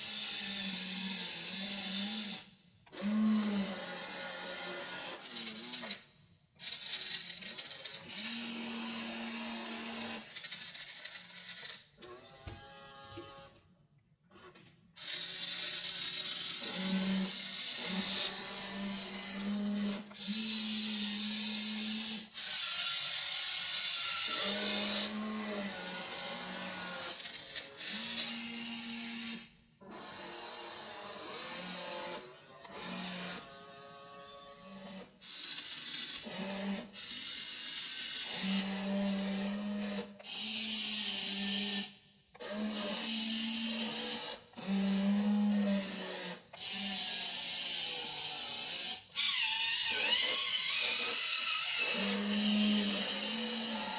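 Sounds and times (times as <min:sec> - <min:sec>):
small electric motors whining: 0:00.0 - 0:13.6, 0:14.3 - 0:53.9.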